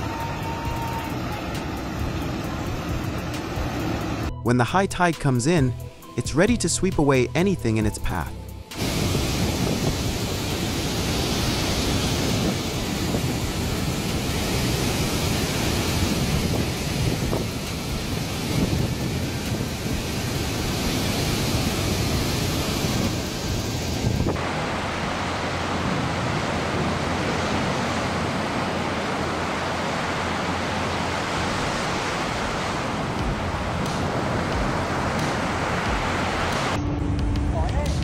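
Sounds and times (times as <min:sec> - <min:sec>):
ocean wave breaking: 0:00.0 - 0:04.3, 0:08.2 - 0:36.8
river water rushing: 0:00.0 - 0:04.3, 0:08.7 - 0:36.8.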